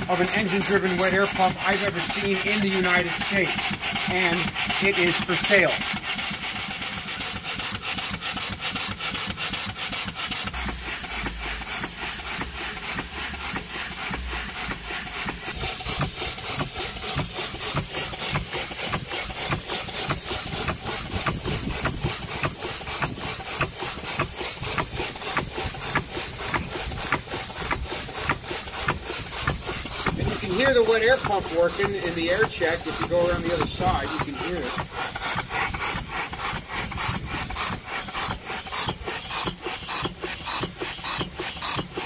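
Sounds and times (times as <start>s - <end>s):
steam engine knocking beat: 0.0s - 42.0s
steam hissing: 0.0s - 42.0s.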